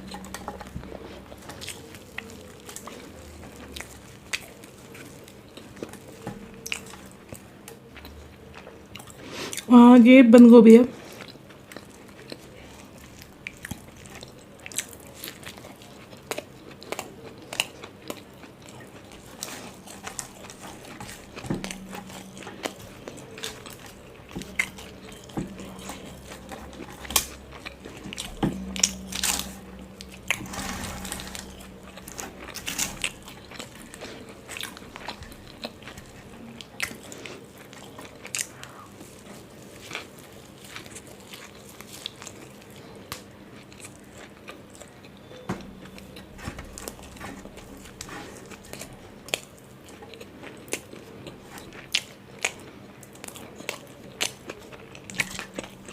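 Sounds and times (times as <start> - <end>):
person biting and chewing food: 0.0 - 9.7, 11.1 - 55.9.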